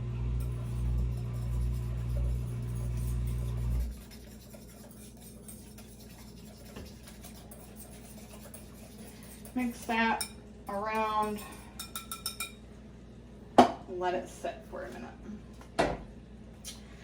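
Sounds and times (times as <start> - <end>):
kitchen appliance electric hum: 0.0 - 17.0.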